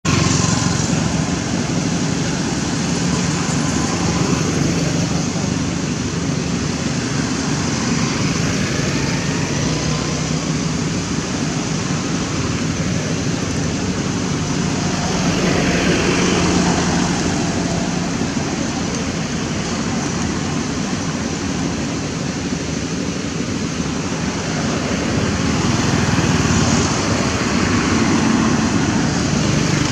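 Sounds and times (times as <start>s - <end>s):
road traffic noise: 0.0s - 29.9s
vehicle engine hum: 0.0s - 29.9s.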